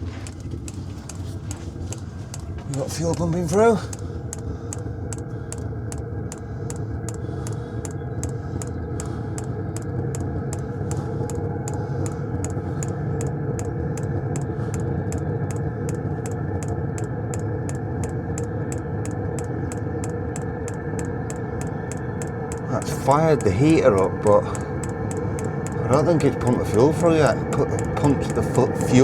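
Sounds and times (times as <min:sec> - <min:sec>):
fuel pump clicking: 0:00.0 - 0:29.0
motor hum: 0:00.0 - 0:29.0.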